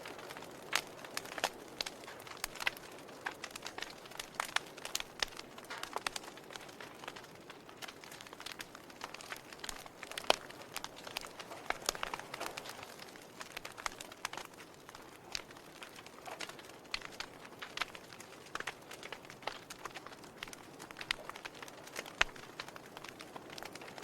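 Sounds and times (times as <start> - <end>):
logs crackling in a fireplace: 0.0 - 24.0.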